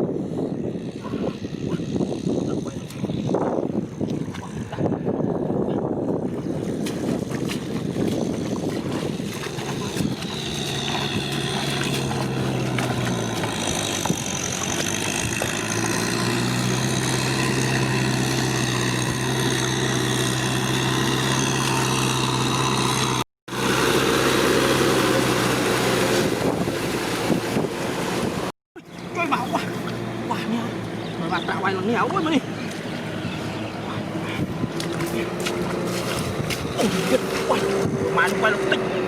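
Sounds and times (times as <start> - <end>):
tractor engine running: 6.8 - 38.9.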